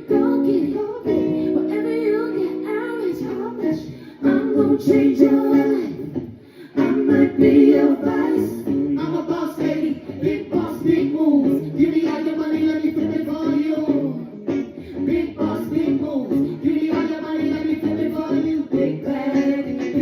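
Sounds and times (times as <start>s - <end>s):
music: 0.0s - 20.0s.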